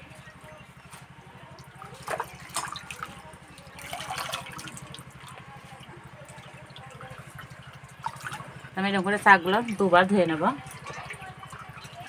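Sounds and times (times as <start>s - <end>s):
greens splashing in bowl of water: 1.6s - 12.0s.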